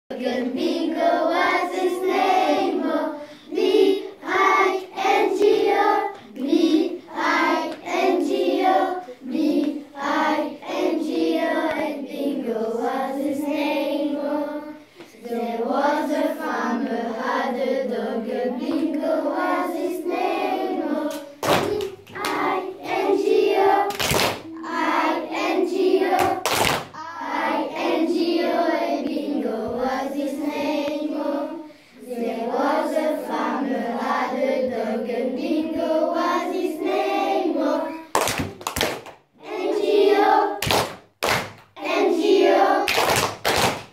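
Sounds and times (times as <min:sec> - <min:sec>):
children singing in unison: 0:00.1 - 0:38.2, 0:39.4 - 0:40.6, 0:41.8 - 0:43.1.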